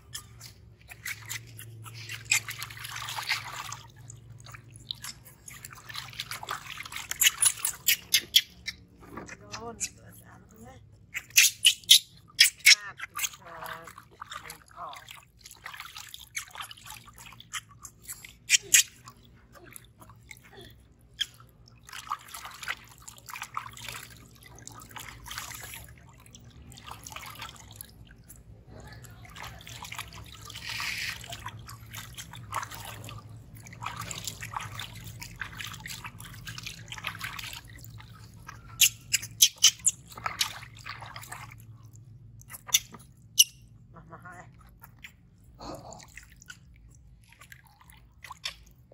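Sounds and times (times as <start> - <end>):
water pouring: 0.0 - 9.4, 11.2 - 43.5
water splashing in a bathtub: 0.0 - 48.9.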